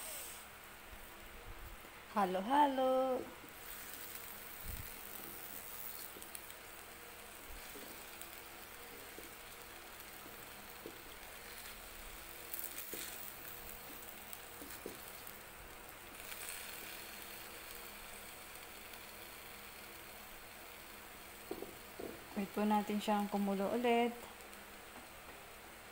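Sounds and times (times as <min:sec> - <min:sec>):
steady low hiss: 0:00.0 - 0:25.9.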